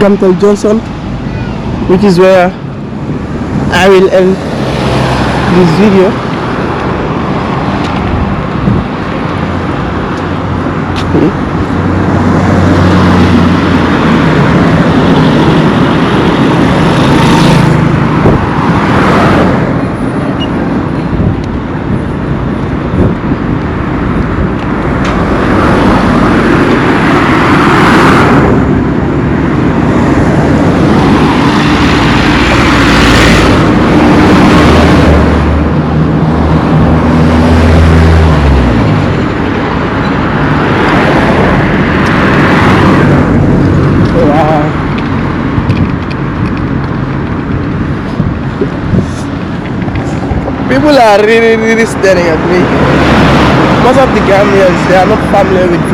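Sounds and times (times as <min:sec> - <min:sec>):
vehicles passing: 0:00.0 - 0:55.9.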